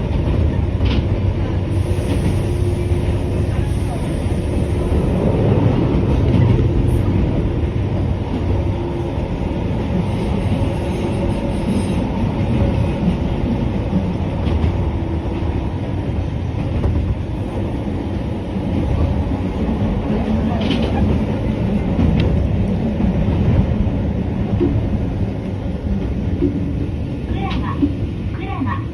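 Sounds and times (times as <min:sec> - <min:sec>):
train wheels rumbling on rail: 0:00.0 - 0:28.9.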